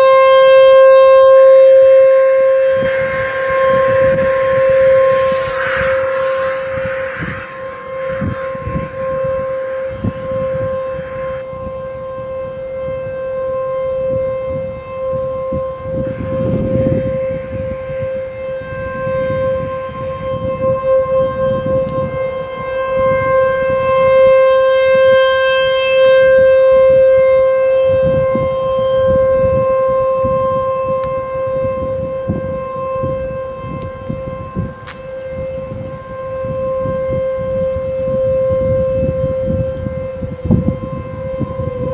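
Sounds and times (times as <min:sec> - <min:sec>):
warning siren steady tone: 0:00.0 - 0:41.9.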